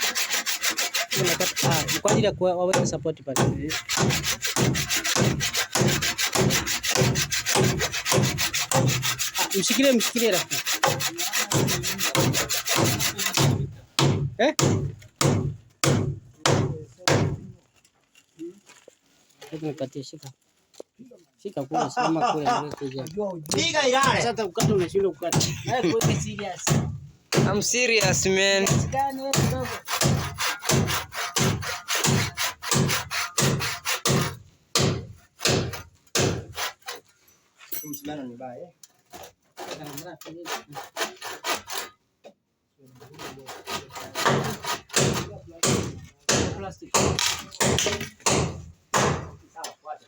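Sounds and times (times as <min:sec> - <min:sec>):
handsaw cutting timber: 0:00.0 - 0:17.5, 0:23.5 - 0:37.2, 0:39.0 - 0:42.0, 0:42.8 - 0:49.4.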